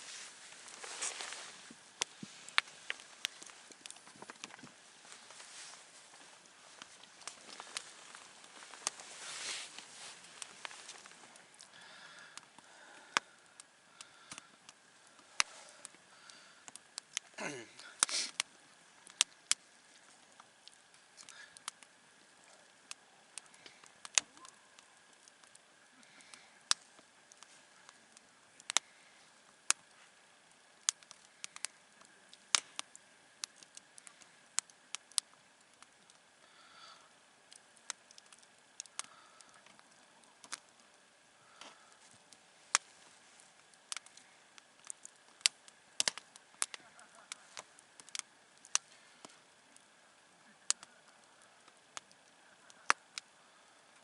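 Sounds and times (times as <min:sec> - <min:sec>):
campfire crackling: 0:00.0 - 0:54.0
soft hissing: 0:00.0 - 0:54.0.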